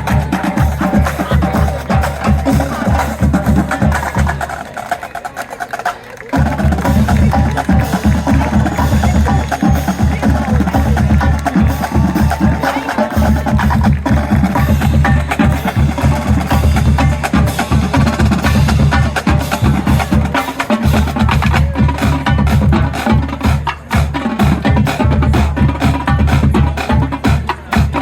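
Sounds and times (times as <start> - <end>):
marching drumline cadence: 0.0 - 28.0.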